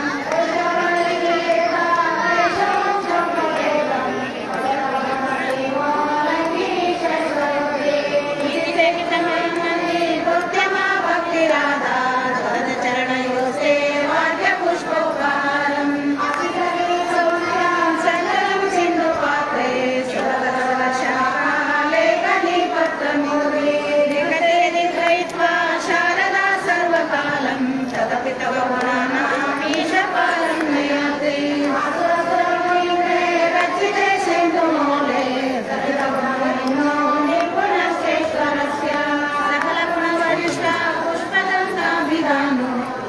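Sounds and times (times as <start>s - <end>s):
group singing devotional chant: 0.0s - 43.0s.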